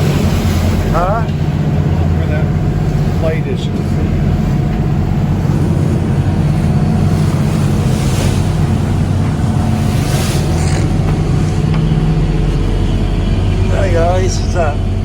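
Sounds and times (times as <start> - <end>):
boat engine droning: 0.0 - 15.0
hissing water washes: 0.0 - 15.0
water noise: 0.0 - 15.0
wind: 0.0 - 15.0.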